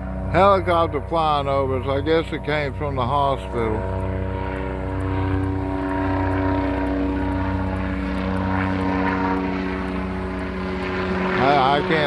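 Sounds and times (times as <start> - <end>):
helicopter engine drone: 0.0 - 12.0
helicopter rotor beating: 0.0 - 12.0.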